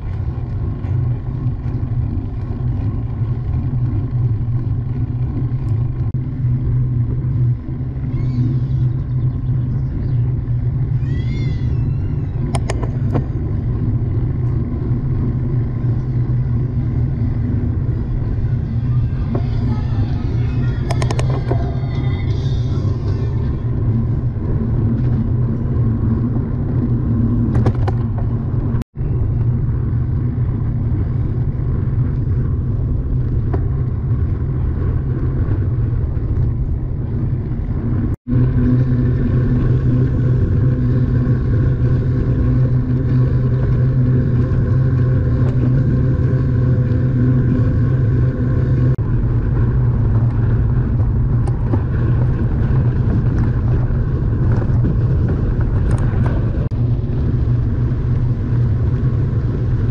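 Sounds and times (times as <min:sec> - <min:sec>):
moving vehicle rumble: 0:00.0 - 0:59.9.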